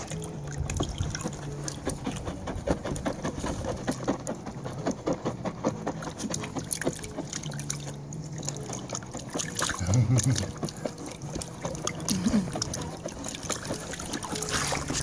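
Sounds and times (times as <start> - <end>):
puppies splashing in water: 0.0 - 15.0.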